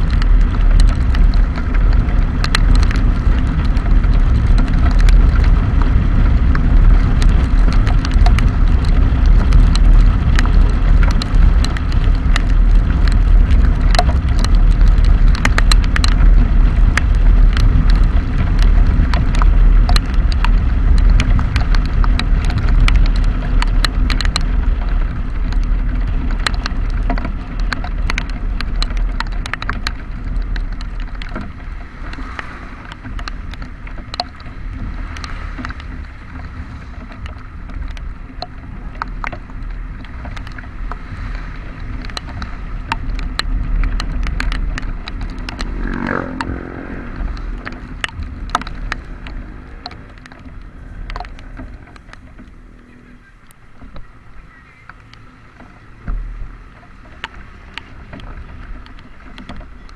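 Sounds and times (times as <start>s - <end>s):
raindrops ticking: 0.0s - 59.9s
vehicle rumbling: 0.0s - 59.9s.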